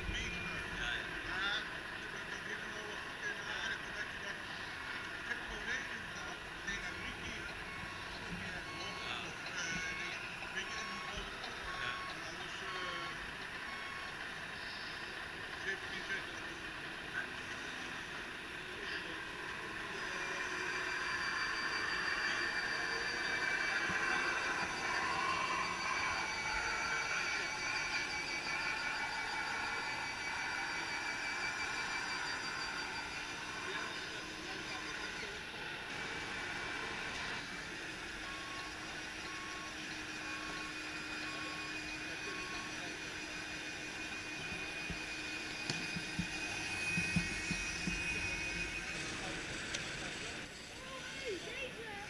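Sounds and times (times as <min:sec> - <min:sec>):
reversing beeper beeps: 0:00.0 - 0:51.6
electric motors and gears whining: 0:00.0 - 0:52.0
steady background hum: 0:00.0 - 0:52.0.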